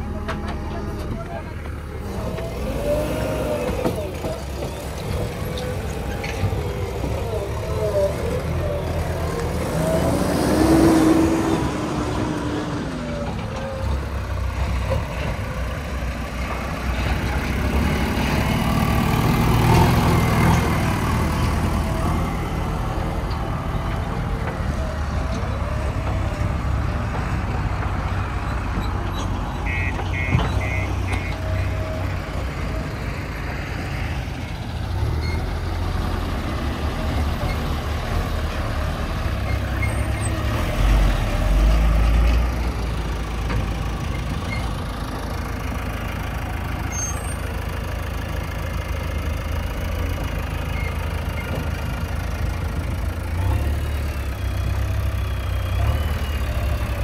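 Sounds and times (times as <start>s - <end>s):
diesel engines revving: 0.0s - 57.0s.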